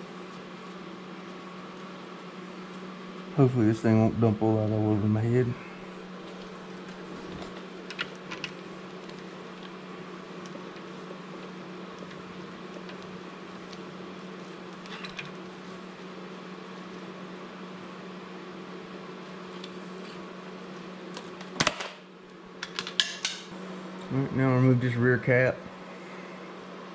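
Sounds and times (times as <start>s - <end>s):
steady motor hum: 0.0s - 26.9s.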